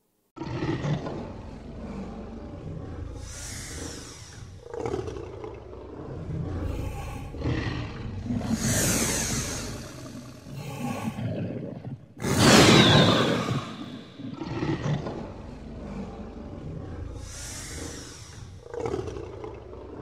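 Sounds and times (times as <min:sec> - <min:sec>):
dinosaur roars: 0:00.4 - 0:20.0.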